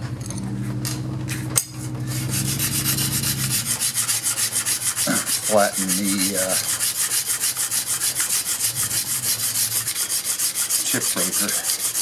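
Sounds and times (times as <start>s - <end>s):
steady low hum: 0.0s - 12.0s
plane blade scraping on abrasive: 1.3s - 12.0s.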